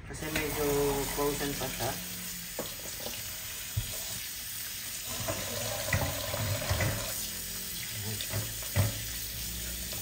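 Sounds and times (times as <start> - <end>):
tap water running into sink: 0.1 - 10.0.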